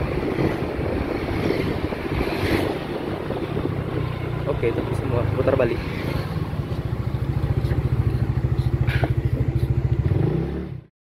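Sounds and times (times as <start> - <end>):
small motorcycle engine: 0.2 - 10.9.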